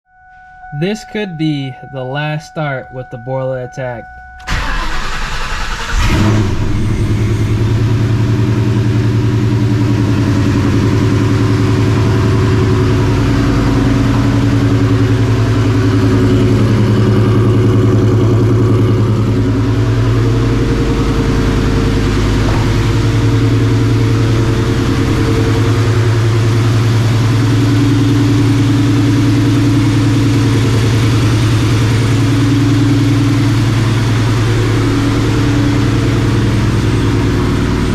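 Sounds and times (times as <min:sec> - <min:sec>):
car engine starting and idling: 0:00.3 - 0:37.9.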